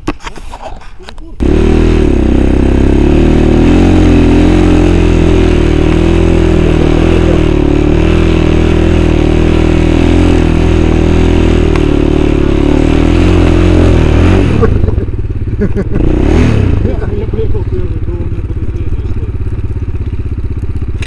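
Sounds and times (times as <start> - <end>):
small engine idling: 1.4 - 12.7, 13.3 - 21.0.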